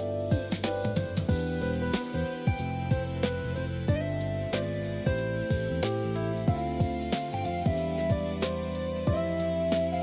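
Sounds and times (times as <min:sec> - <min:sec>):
held melody: 0:00.0 - 0:10.0
deep bass hits dropping in pitch: 0:00.3 - 0:10.0.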